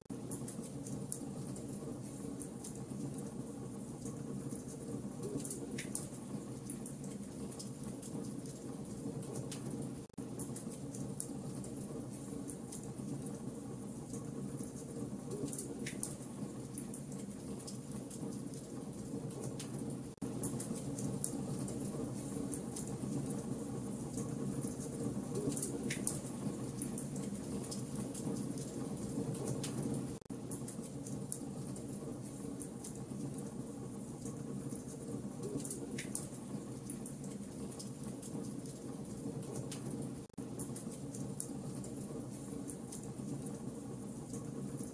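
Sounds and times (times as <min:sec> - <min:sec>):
wood fire burning: 0:00.0 - 0:44.9.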